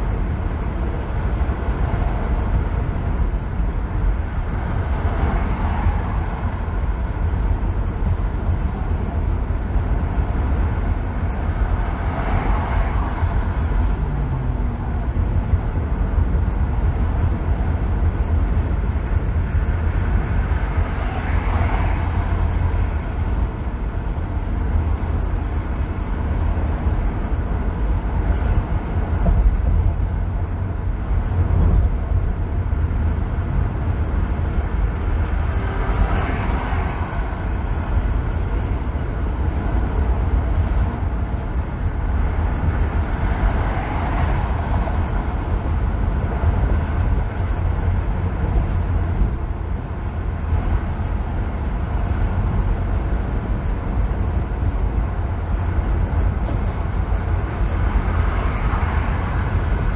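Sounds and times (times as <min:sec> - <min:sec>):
car road noise on freeway: 0:00.0 - 0:59.9.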